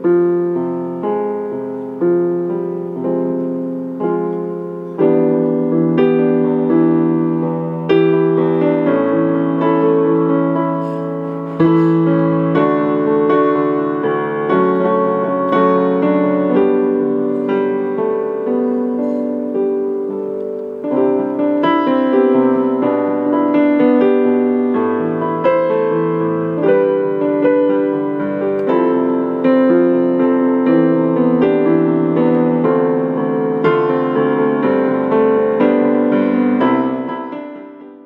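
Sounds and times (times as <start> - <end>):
gentle piano tune: 0.0 - 38.0.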